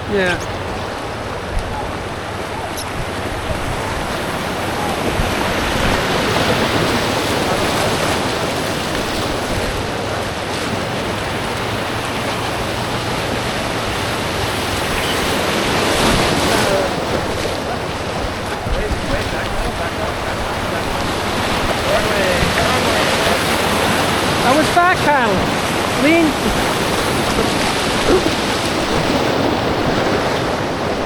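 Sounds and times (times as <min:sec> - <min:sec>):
creek rapids rushing: 0:00.0 - 0:31.0.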